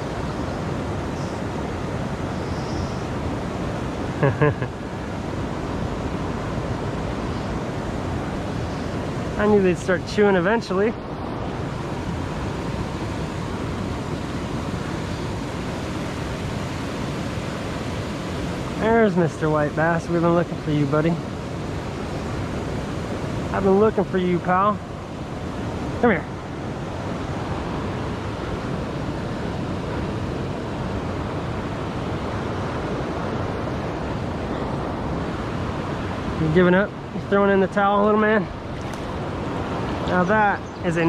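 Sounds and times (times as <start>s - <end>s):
waterfall rushing: 3.0s - 31.7s, 32.3s - 41.0s.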